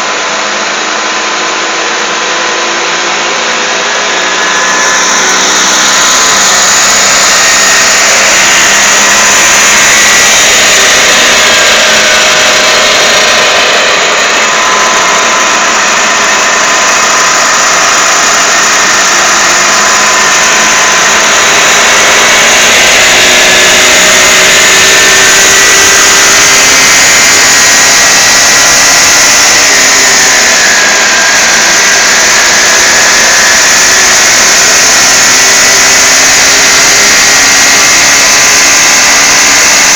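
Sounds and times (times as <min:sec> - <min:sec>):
motorcycle mechanical whine: 0:00.0 - 0:39.9.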